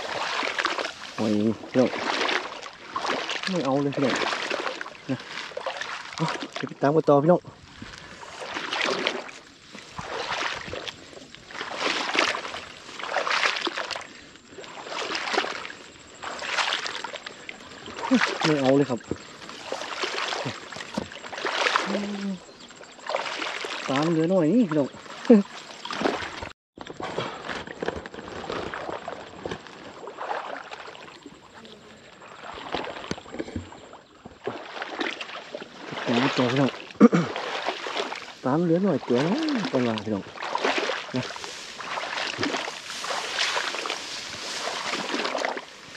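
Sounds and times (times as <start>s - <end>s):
footsteps sloshing through water: 0.0s - 45.9s.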